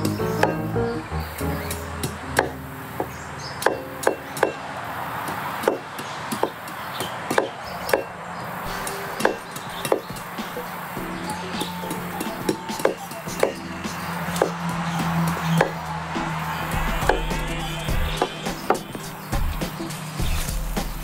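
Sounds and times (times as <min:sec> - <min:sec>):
quiet background music: 0:00.0 - 0:05.1, 0:08.7 - 0:21.0.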